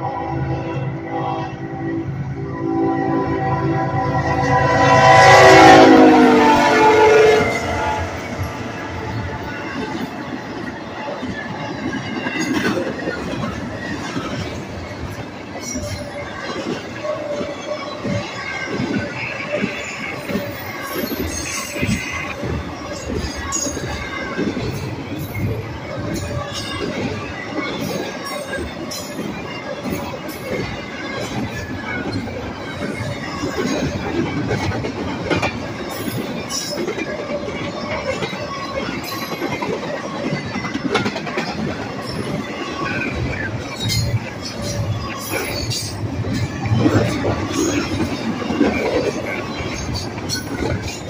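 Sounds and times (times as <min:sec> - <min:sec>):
train wheels clattering on rails: 0:05.7 - 0:51.0.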